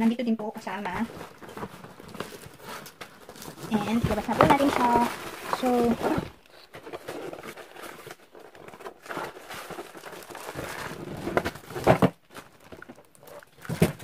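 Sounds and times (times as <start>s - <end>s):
cardboard and plastic rustling: 0.5s - 14.0s.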